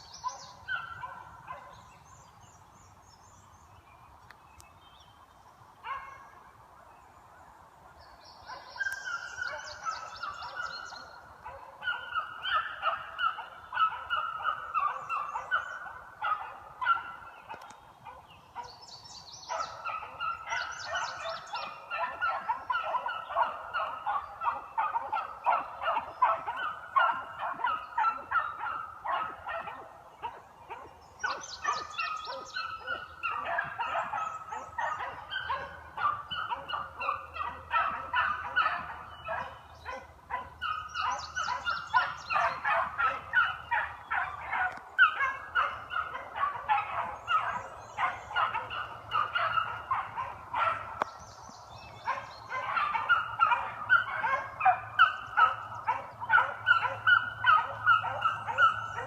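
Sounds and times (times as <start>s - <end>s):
hounds baying: 0.2s - 1.9s, 5.8s - 6.3s, 8.5s - 18.8s, 19.4s - 51.1s, 51.8s - 59.0s.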